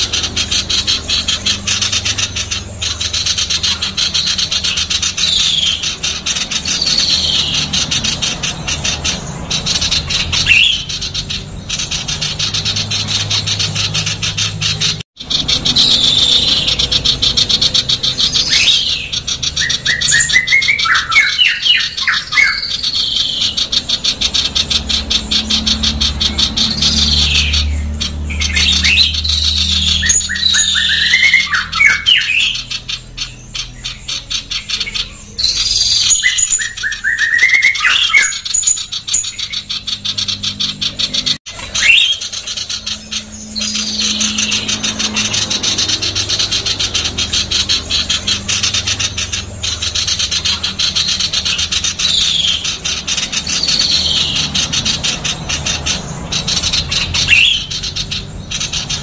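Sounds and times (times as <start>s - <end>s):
bird chattering call: 0.0s - 59.0s.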